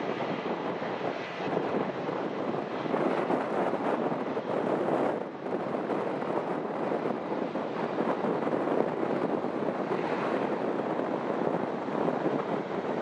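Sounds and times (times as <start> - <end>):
jet engines roaring: 0.0 - 13.0
wind on microphone: 0.0 - 13.0.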